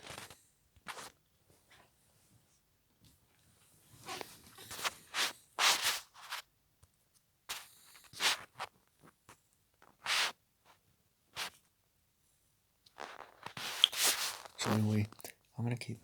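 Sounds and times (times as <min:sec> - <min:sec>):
bedding and clothes rustling: 0:00.0 - 0:06.5, 0:07.5 - 0:11.6, 0:12.9 - 0:15.2.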